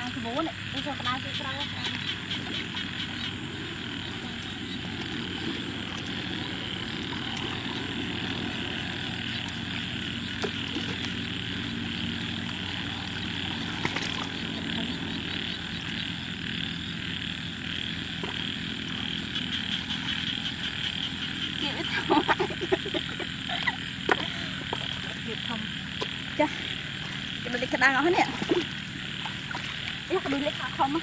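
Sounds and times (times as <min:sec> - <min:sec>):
chorus of frogs or insects: 0:00.0 - 0:31.0
low even drone: 0:00.0 - 0:31.0.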